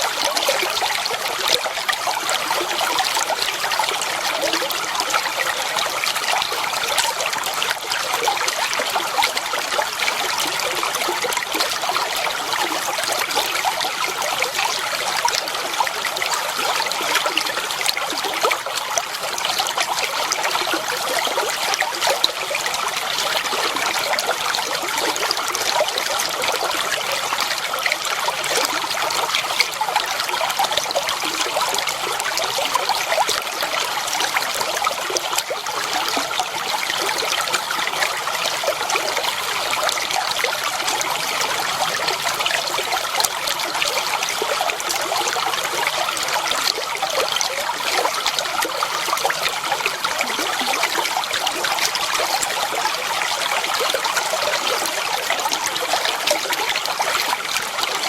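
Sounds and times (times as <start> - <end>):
water trickling over stones: 0.0 - 58.0.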